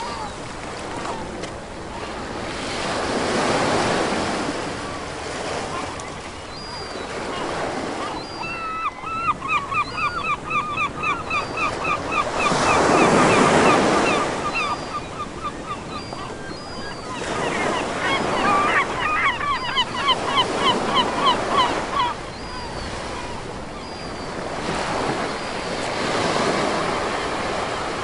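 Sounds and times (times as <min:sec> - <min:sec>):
gulls calling: 0:00.0 - 0:01.3, 0:03.1 - 0:28.0
waves breaking on the shore: 0:00.0 - 0:28.0.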